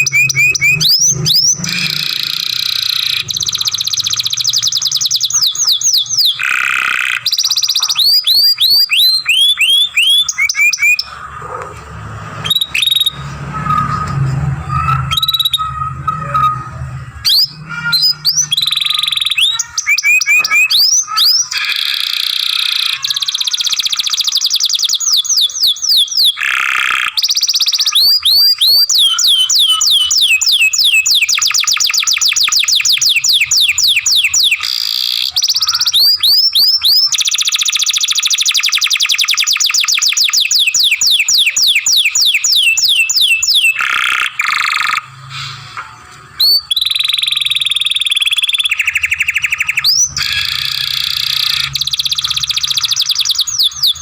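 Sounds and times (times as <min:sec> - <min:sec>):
canary singing trills: 0:00.0 - 0:45.6, 0:46.4 - 0:54.0.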